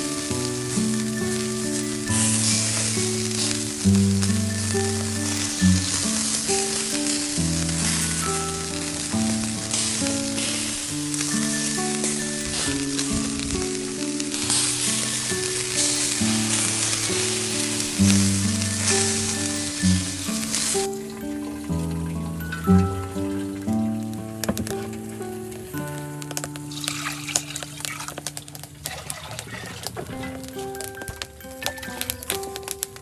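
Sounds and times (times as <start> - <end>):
skewers sizzling on a grill: 0.0 - 33.0
slow background music: 0.0 - 33.0.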